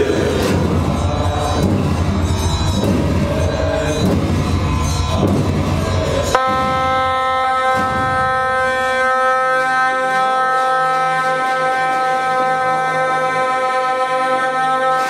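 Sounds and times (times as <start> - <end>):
loud ritual music: 0.0 - 15.0
shawms holding a long note: 0.0 - 15.0.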